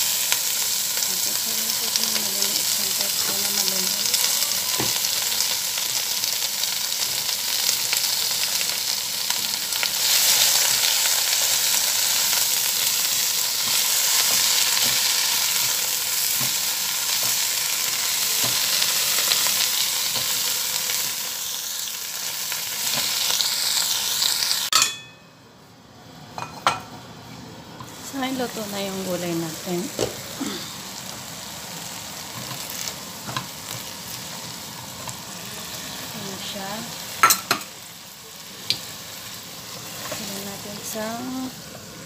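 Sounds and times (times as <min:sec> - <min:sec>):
vegetables sizzling in oil: 0:00.0 - 0:25.1, 0:26.2 - 0:42.0.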